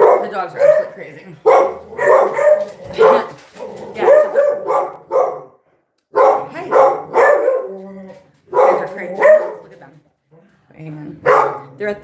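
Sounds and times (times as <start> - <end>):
dogs barking: 0.0 - 9.8, 11.2 - 11.8.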